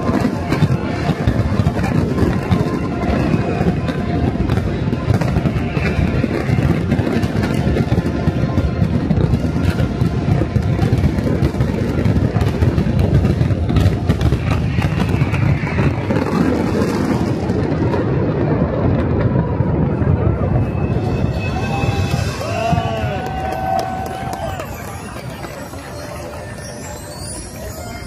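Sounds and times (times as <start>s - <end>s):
fireworks booming: 0.0s - 27.4s
fireworks cracking and crackling: 0.0s - 28.0s.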